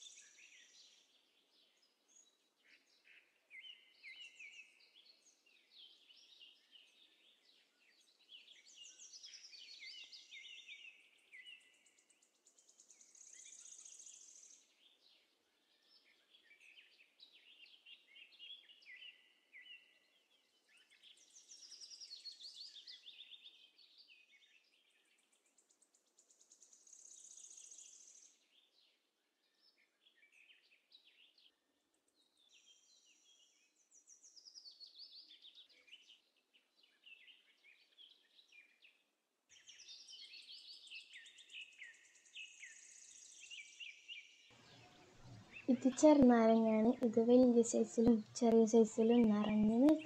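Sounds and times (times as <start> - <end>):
small birds chirping and trilling: 0.0 - 50.0.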